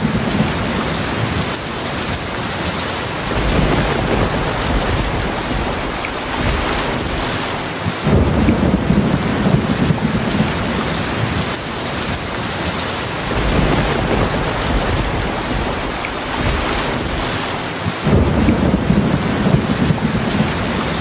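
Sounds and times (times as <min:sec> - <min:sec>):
rolling thunder: 0:00.0 - 0:20.9
heavy rain: 0:00.0 - 0:21.0.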